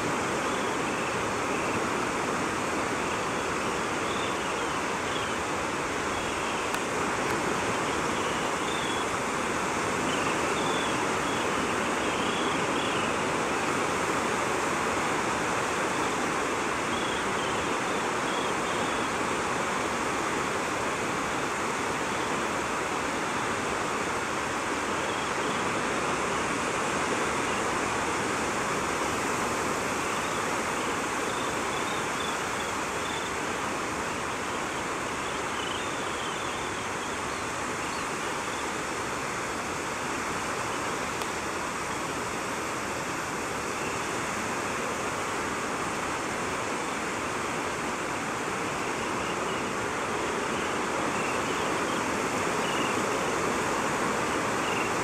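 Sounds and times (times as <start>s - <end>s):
surf washing on beach: 0.0s - 55.0s.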